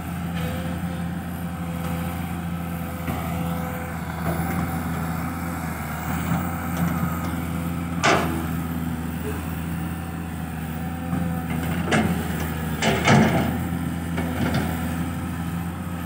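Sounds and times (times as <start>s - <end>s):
excavator diesel engine running: 0.0s - 16.0s
excavator digging sand: 0.0s - 16.0s.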